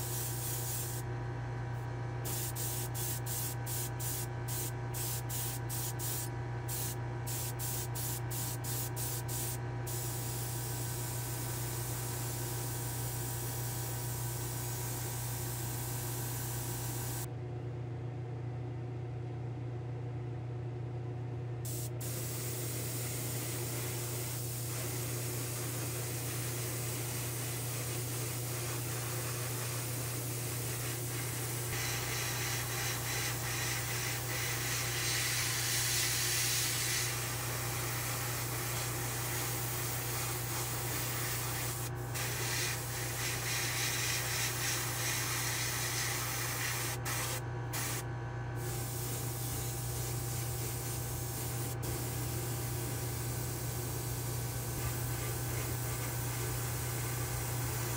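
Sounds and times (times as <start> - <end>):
airbrush spraying hiss: 0.0 - 1.1, 2.2 - 17.3, 21.7 - 48.0, 48.6 - 57.9
steady low hum: 0.0 - 57.9.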